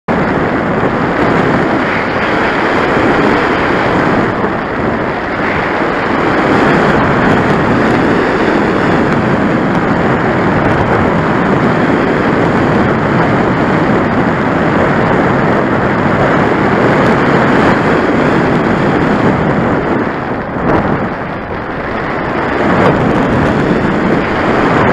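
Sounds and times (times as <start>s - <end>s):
heavy wind buffeting microphone: 0.0s - 24.9s.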